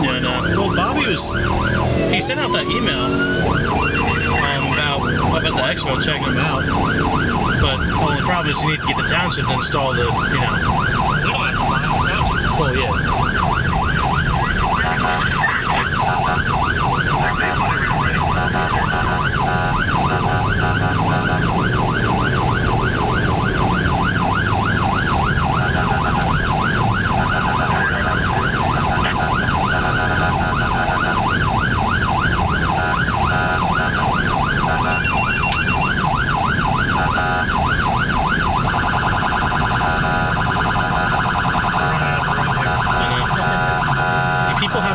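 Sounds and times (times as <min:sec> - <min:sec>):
engine and road noise: 0:00.0 - 0:44.9
siren yelping: 0:00.0 - 0:44.9.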